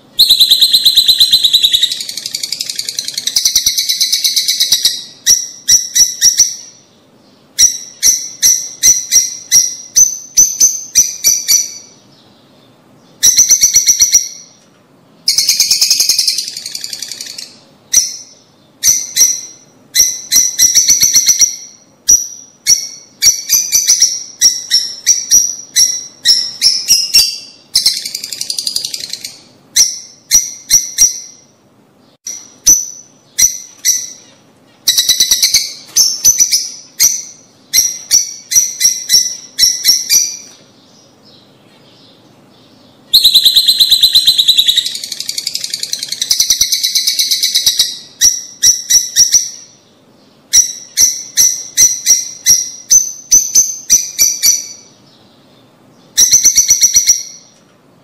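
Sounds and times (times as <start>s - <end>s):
lovebirds chirping: 0.0s - 57.7s.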